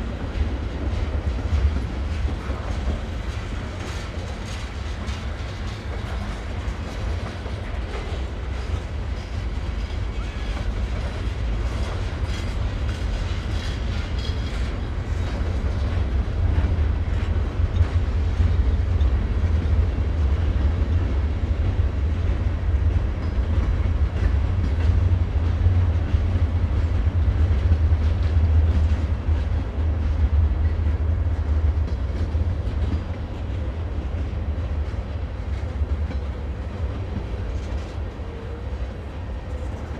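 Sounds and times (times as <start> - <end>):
train rumbling over bridge: 0.0 - 39.9.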